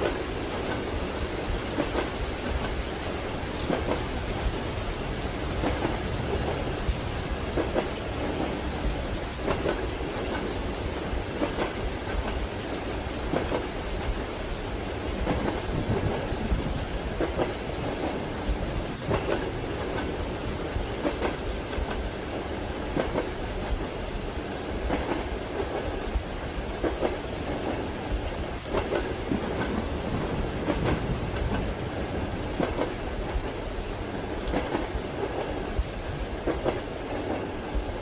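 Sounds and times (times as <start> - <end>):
train wheels clacking over rail joints: 0.0 - 14.3, 15.0 - 23.8, 24.6 - 38.0
steady rain: 0.0 - 38.0.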